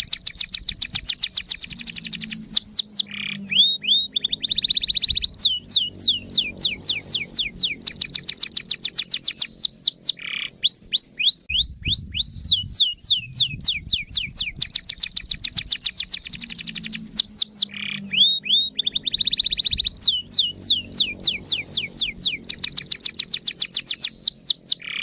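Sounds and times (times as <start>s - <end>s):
harsh rasping bird notes: 0.0s - 11.8s, 12.6s - 25.0s
canary singing: 0.0s - 25.0s.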